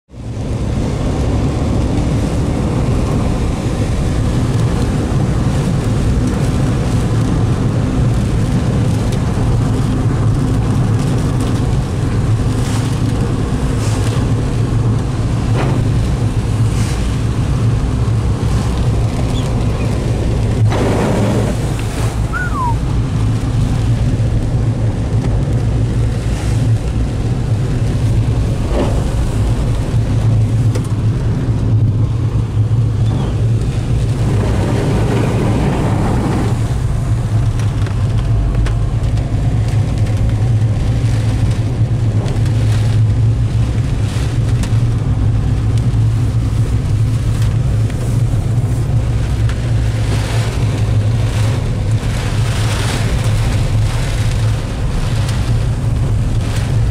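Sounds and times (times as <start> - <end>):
engine and road drone: 0.1 - 56.9
rain on car: 0.1 - 56.9
tyres hissing on wet road: 0.1 - 56.9.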